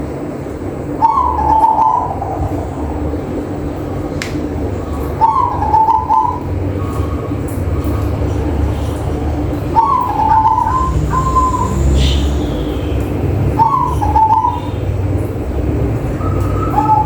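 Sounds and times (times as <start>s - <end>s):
steady low rumble: 0.0s - 17.0s
dove cooing: 1.0s - 17.0s.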